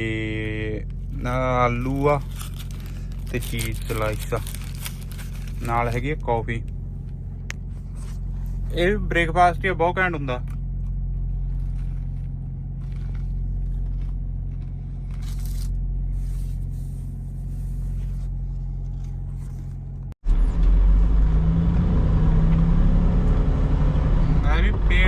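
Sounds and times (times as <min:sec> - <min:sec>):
diesel truck engine: 0:00.0 - 0:25.0.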